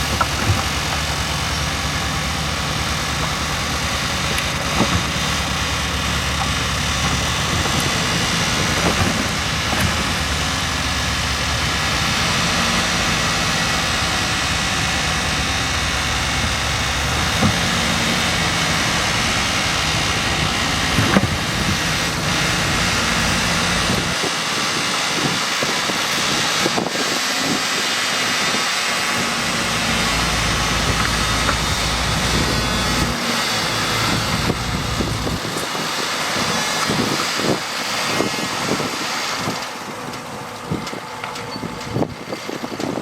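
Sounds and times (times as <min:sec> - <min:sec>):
bulldozer diesel engine running: 0:00.0 - 0:43.0
tracks clanking: 0:00.0 - 0:43.0.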